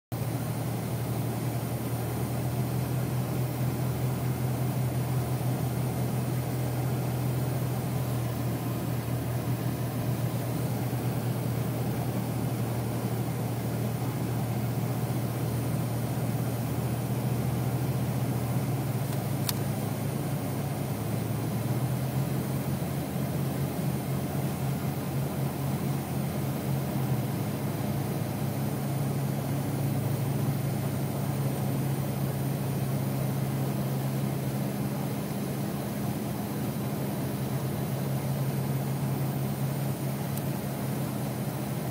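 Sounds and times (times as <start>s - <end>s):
engine hum inside vehicle: 0.1s - 41.9s.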